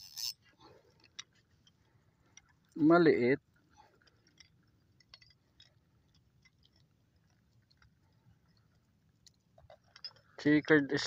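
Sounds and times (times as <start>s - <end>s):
faint clicks and ticks: 0.0s - 11.0s.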